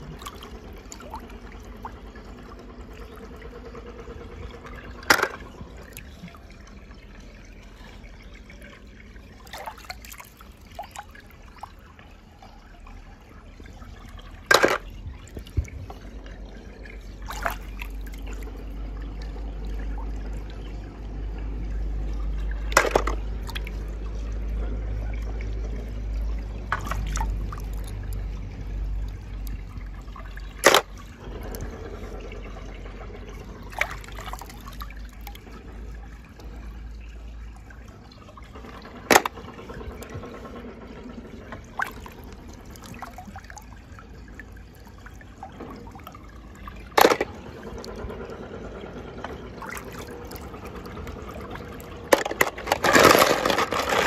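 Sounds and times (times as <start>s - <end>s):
low hum: 0.0s - 54.0s
water trickling: 0.0s - 54.0s.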